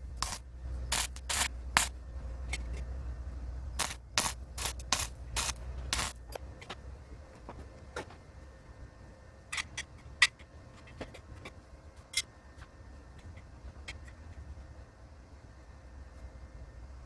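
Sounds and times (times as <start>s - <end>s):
faint low rumble: 0.0s - 17.0s.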